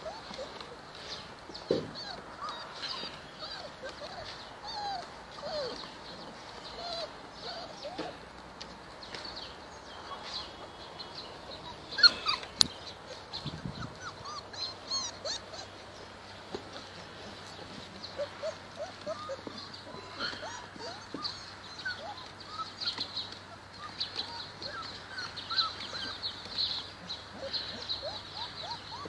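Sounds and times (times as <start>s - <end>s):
puppies whimpering and yelping: 0.0s - 8.5s, 9.8s - 29.0s.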